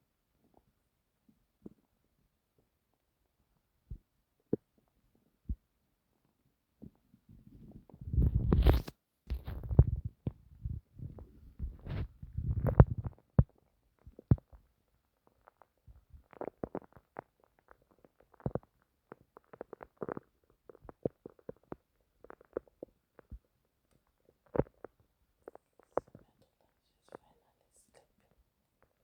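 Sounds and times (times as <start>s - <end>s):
stomach rumbling and gurgling: 3.8s - 27.3s.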